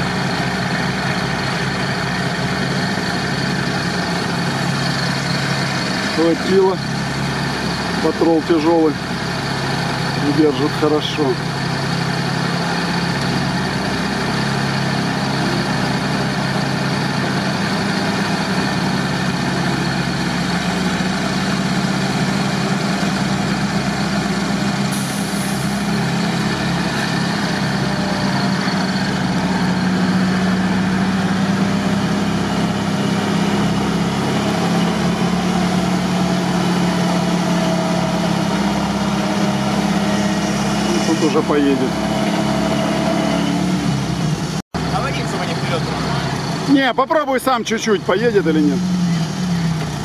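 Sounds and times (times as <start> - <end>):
off-road vehicle engine running: 0.0 - 50.0.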